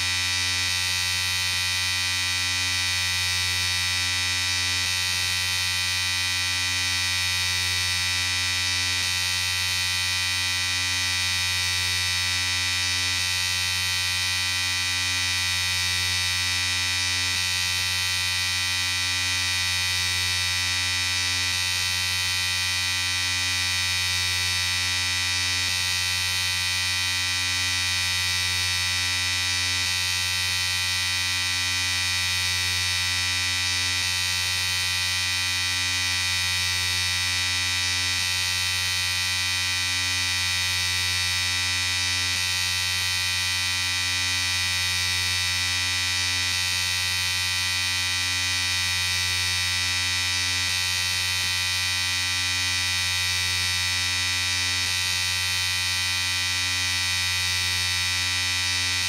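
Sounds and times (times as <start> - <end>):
electric shaver buzzing: 0.0 - 59.0.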